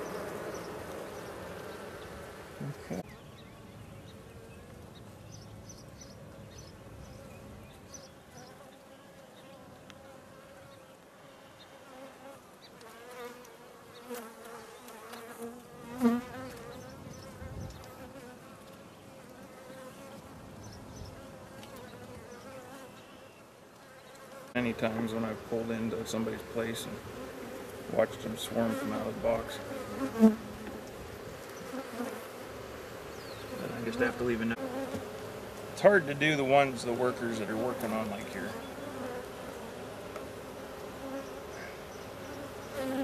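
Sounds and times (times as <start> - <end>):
bee colony humming: 0.0 - 43.0
bees buzzing past: 0.0 - 43.0.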